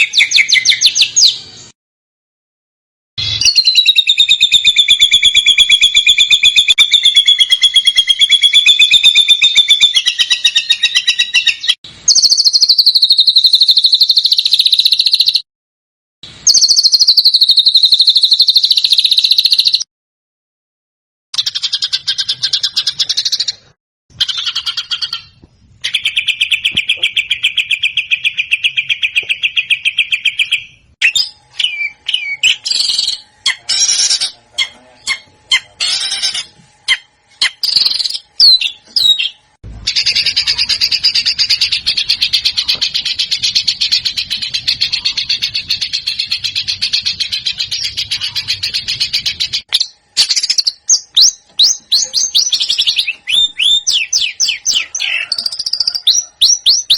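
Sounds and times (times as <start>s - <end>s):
songbird singing: 0.0s - 1.7s, 3.2s - 15.4s, 16.4s - 19.9s, 21.4s - 56.9s.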